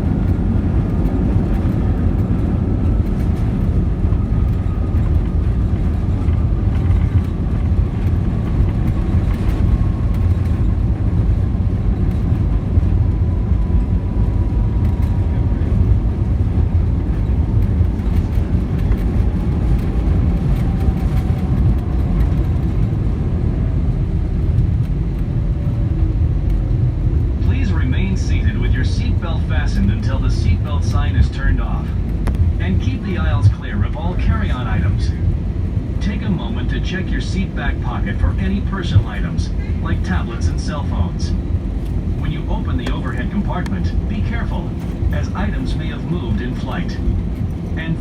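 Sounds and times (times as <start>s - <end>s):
aircraft cabin low rumble: 0.0s - 48.0s
jet engines whining: 0.0s - 48.0s.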